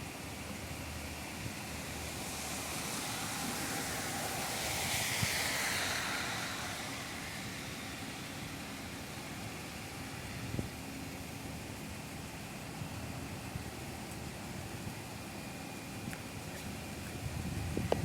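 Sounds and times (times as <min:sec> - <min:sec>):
vehicle tyres hissing on wet road: 0:00.0 - 0:18.0.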